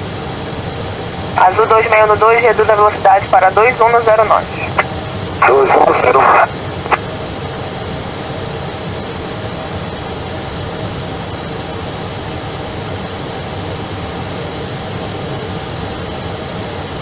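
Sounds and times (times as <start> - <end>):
airliner engines and airflow: 0.0 - 17.0.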